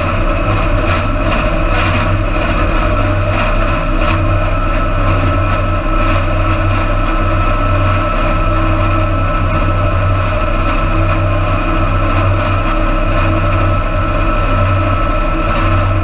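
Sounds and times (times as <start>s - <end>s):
thin high whine: 0.0s - 16.0s
tractor engine running: 0.0s - 16.0s.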